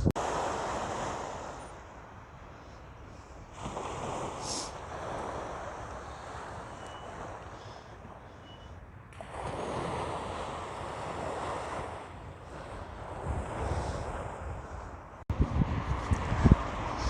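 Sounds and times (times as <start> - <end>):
sea surf washing onto beach: 0.0 - 8.2, 9.2 - 17.0
wind rumbling on microphone: 0.0 - 17.0.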